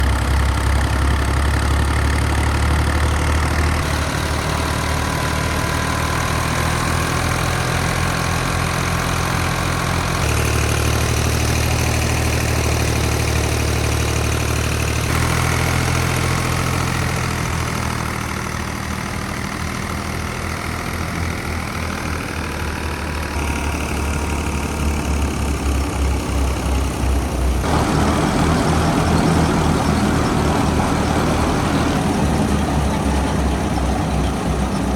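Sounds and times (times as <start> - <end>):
tractor diesel engine drone: 0.0 - 34.9.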